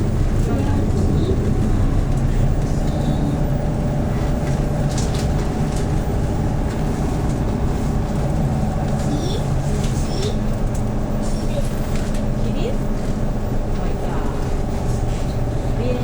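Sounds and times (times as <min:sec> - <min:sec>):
bus engine humming: 0:00.0 - 0:16.0.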